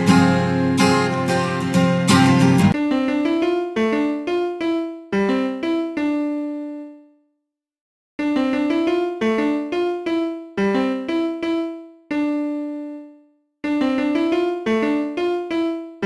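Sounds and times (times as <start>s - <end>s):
piano-like keyboard melody: 0.0s - 7.4s, 8.2s - 16.0s.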